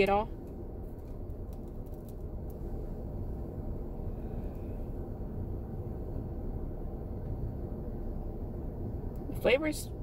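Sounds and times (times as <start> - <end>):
car cabin rumble and hum: 0.0 - 10.0.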